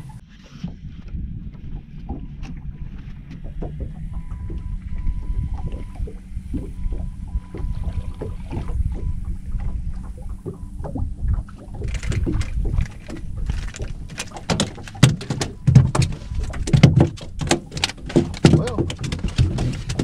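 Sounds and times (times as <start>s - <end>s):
water splashes and knocks: 0.0s - 20.0s
waves lapping against boat hull: 0.0s - 20.0s
wind on microphone: 0.0s - 20.0s.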